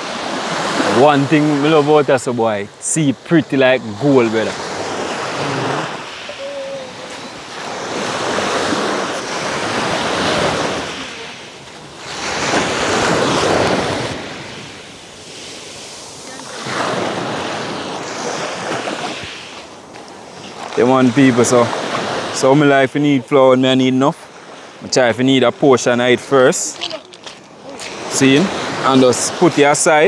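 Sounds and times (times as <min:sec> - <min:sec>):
sea waves breaking on pebbles: 0:03.6 - 0:22.5, 0:23.6 - 0:30.0.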